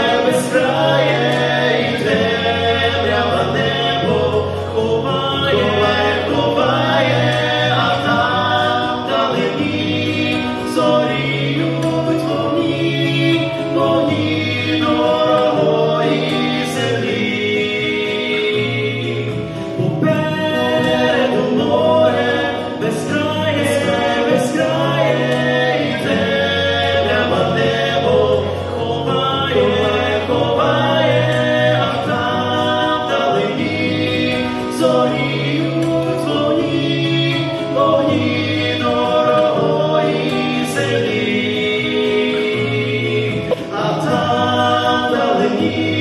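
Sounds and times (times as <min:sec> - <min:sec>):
instrumental accompaniment with bass: 0:00.0 - 0:46.0
men singing in duet: 0:00.0 - 0:46.0.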